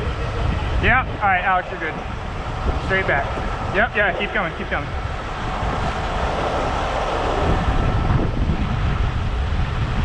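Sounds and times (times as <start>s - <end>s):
heavy truck engine running: 0.0s - 10.0s
wind buffeting microphone: 0.0s - 10.0s.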